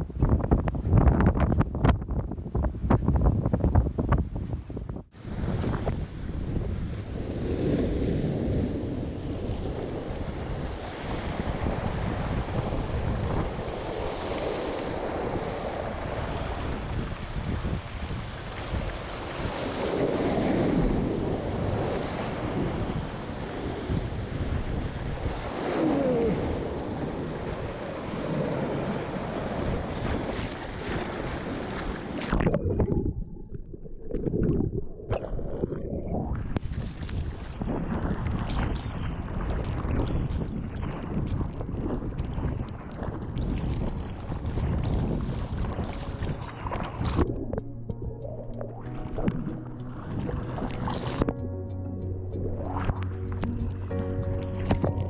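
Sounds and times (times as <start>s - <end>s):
surf and rushing water: 0.0s - 32.9s, 36.3s - 47.6s, 48.5s - 51.4s
wind buffeting microphone: 0.0s - 55.0s.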